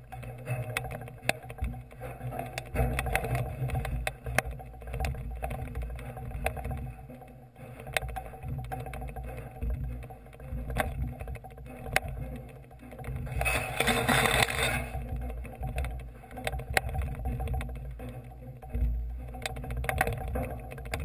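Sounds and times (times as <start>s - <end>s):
metallic clicks and knocks: 0.1s - 21.0s.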